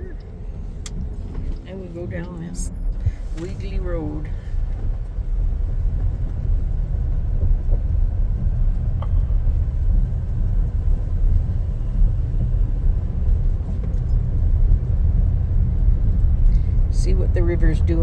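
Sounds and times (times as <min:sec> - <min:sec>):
car engine rumble: 0:00.0 - 0:18.0
road noise inside car: 0:00.0 - 0:18.0.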